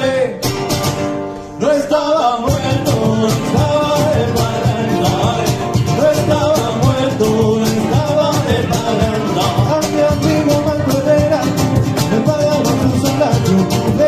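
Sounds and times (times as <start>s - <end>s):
acoustic guitars strumming: 0.0s - 14.0s
cajon beat: 0.0s - 14.0s.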